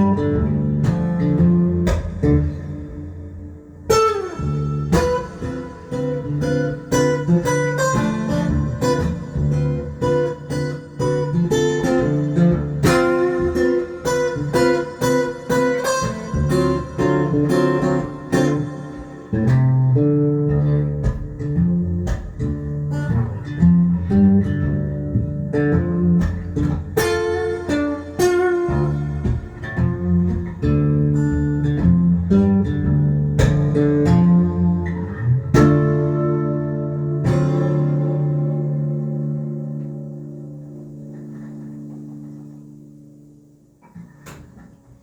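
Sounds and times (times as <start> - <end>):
acoustic guitar blues instrumental: 0.0 - 45.0.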